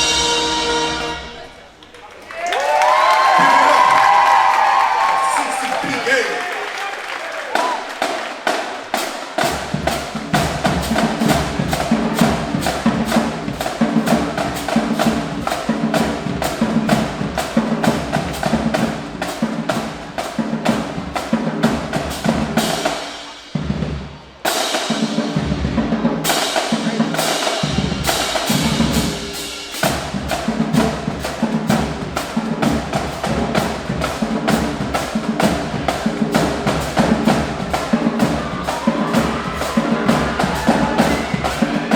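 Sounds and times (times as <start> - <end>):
marching drumline cadence: 0.0 - 41.9.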